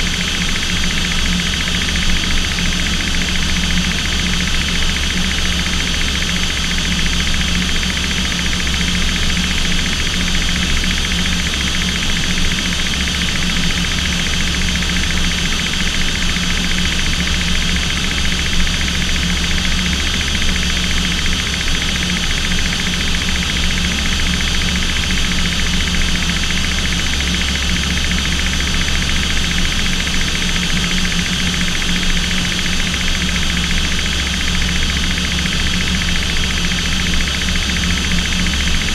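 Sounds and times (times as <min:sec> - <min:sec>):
aircraft engines droning in cockpit: 0:00.0 - 0:38.9.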